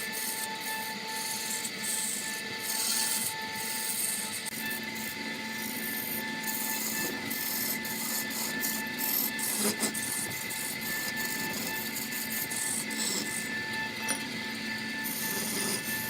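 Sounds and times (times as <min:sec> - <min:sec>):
tool scraping spinning wood: 0:00.0 - 0:16.0
wood lathe motor whine: 0:00.0 - 0:16.0.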